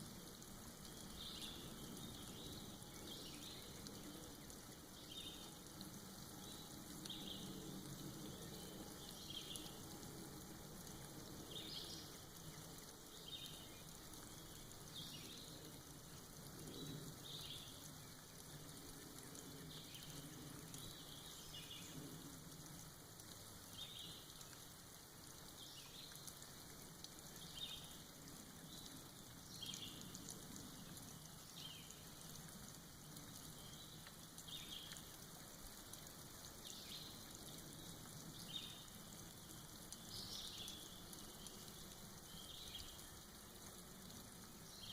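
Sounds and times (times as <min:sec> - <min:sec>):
rain patter: 0:00.0 - 0:44.9.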